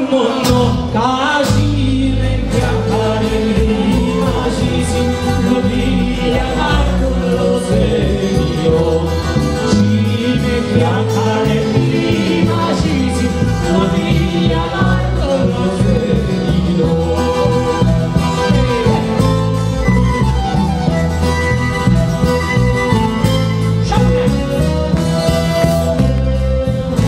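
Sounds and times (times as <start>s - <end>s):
man singing: 0.0s - 20.2s, 23.2s - 27.0s
heavy bass: 0.0s - 27.0s
plucked strings: 0.4s - 27.0s.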